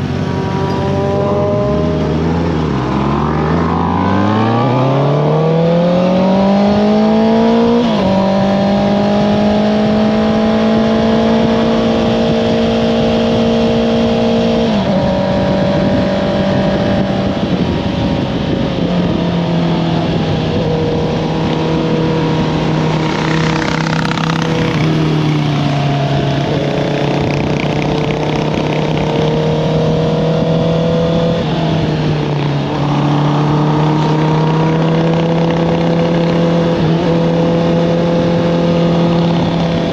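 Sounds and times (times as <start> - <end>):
motorcycle engine accelerating: 0.0 - 39.9
wind rushing: 0.0 - 39.9.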